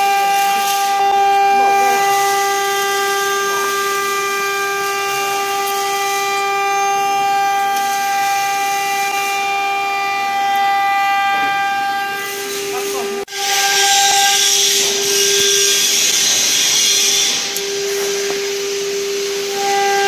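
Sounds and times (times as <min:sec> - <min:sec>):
spindle motor high whine: 0:00.0 - 0:20.0.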